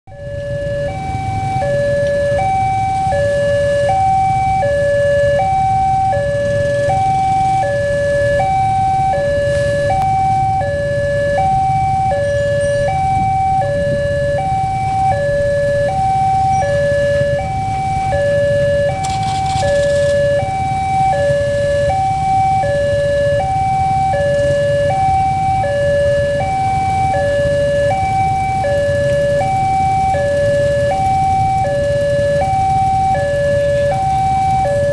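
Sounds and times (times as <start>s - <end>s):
steady low rumble: 0.1s - 34.9s
two-tone level-crossing alarm: 0.1s - 34.9s.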